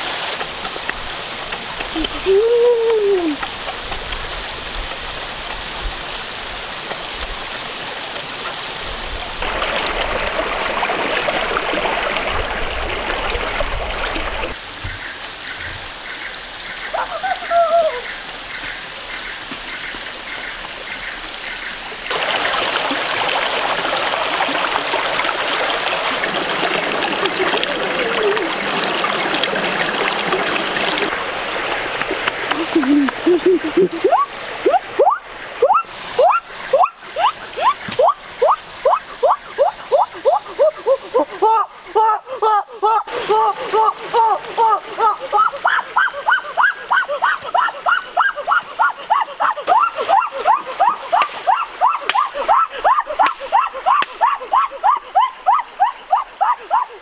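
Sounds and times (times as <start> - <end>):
stream water running over rocks: 0.0 - 57.0.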